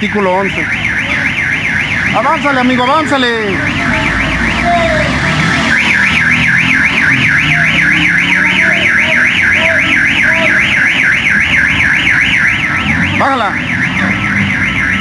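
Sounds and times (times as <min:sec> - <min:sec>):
electronic alarm warbling: 0:00.0 - 0:15.0.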